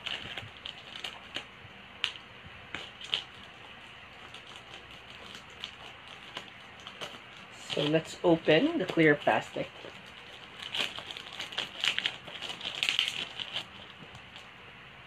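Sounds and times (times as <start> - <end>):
sharp crackles and clicks: 0.0 - 14.5
plastic packaging crinkling: 0.0 - 14.6.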